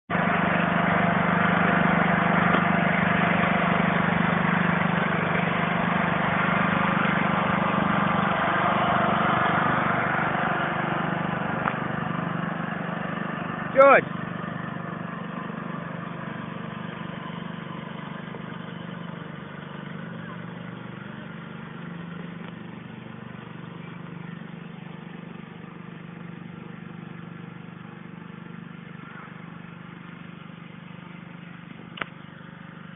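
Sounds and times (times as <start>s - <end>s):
small petrol engine running: 0.1s - 32.9s.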